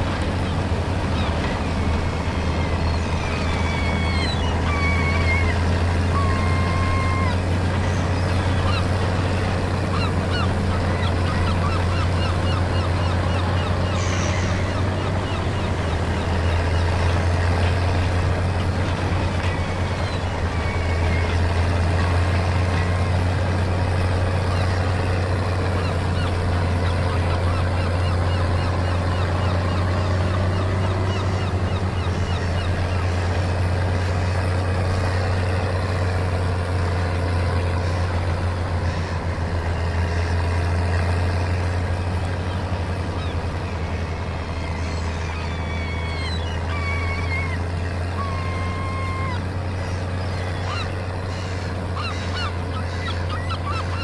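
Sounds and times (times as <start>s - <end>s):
gulls calling: 0.0s - 54.0s
tractor diesel engine pulling: 0.0s - 54.0s.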